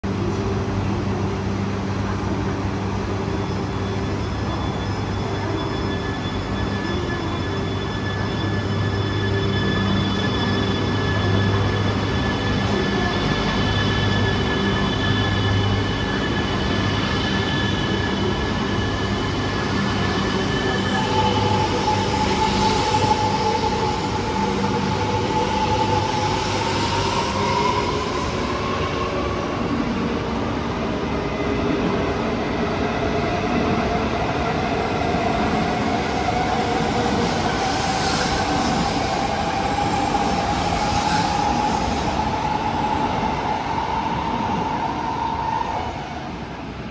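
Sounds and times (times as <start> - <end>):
train low hum: 0.0 - 46.9
train running noise: 0.0 - 46.9.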